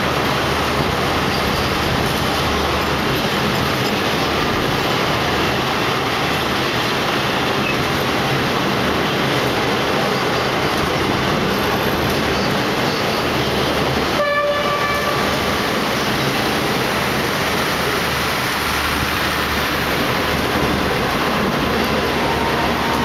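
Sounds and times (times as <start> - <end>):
train wheels rolling on rails: 0.0 - 23.0.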